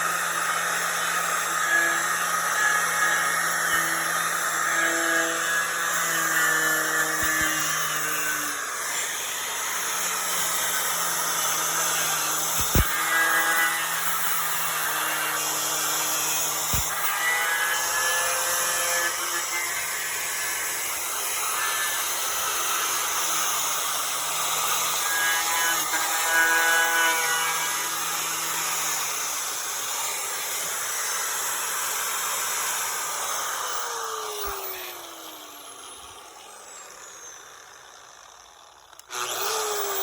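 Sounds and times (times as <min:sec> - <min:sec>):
angle grinder with wire wheel: 0:00.0 - 0:40.0.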